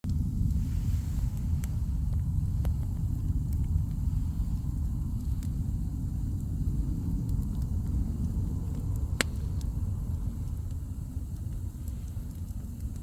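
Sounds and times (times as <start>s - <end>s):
bonfire crackling and popping: 0.0s - 13.0s
low rumble: 0.0s - 13.0s.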